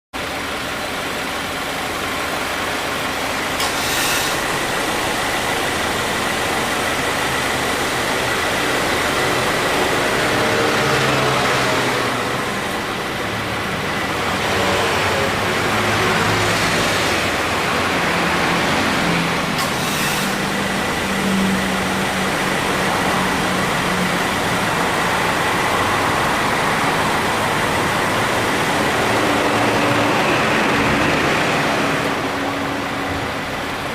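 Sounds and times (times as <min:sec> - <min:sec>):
car engine running: 0:00.2 - 0:33.9.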